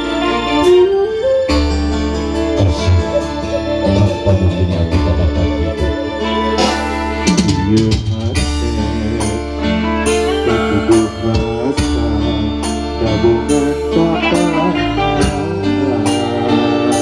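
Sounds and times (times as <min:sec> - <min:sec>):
electric guitar: 0:00.0 - 0:17.0
keyboard: 0:00.0 - 0:17.0.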